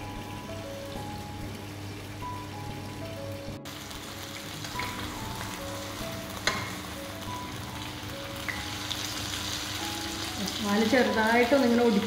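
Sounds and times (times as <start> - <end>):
fish sizzling in a pan: 0.0 - 12.0
soft background music: 0.0 - 12.0.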